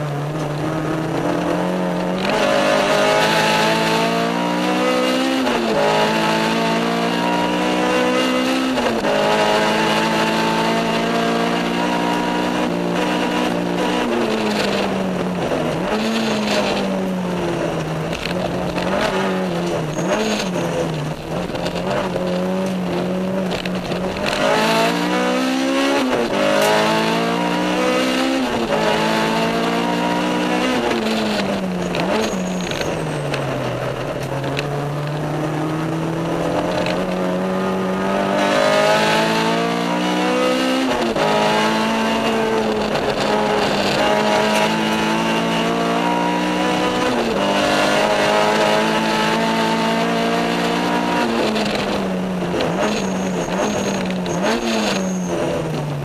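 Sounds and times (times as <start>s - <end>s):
car engine revving at racing speed: 0.0s - 56.0s.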